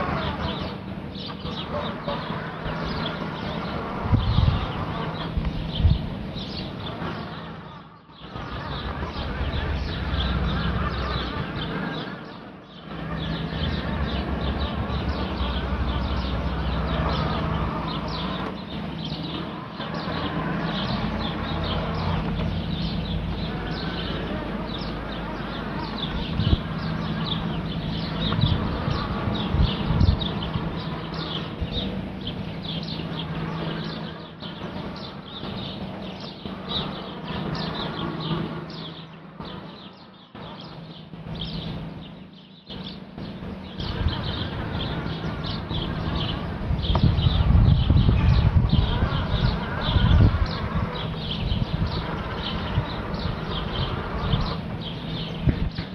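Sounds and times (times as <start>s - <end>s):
robotic lawn mower motors humming: 0.0s - 55.9s.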